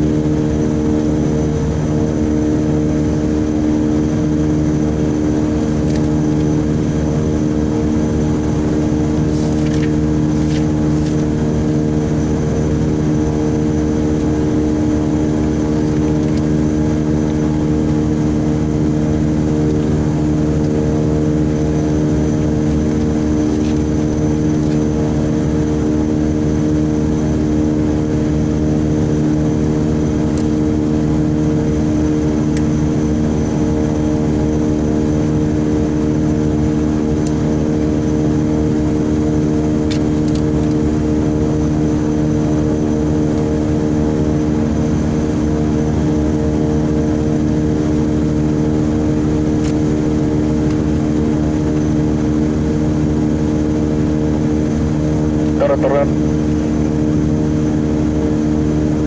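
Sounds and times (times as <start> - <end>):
high turbine whine: 0.0 - 59.0
propeller drone: 0.0 - 59.0.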